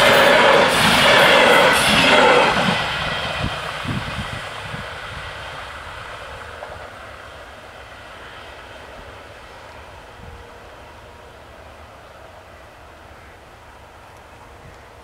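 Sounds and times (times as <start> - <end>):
train coaches rolling past: 0.0 - 15.0.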